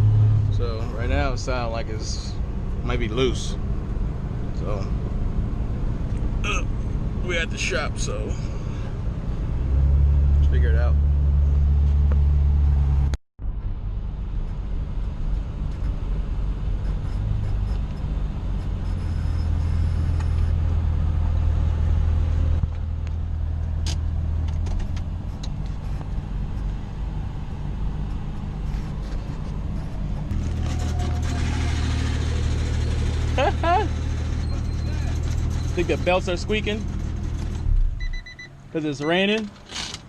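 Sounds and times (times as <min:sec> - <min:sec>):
car engine humming: 0:00.0 - 0:40.0.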